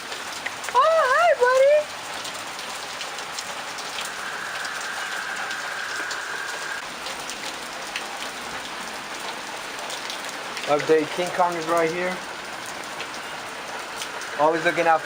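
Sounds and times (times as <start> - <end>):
raindrops ticking on hard surfaces: 0.0 - 15.0
steady rain falling: 0.0 - 15.0.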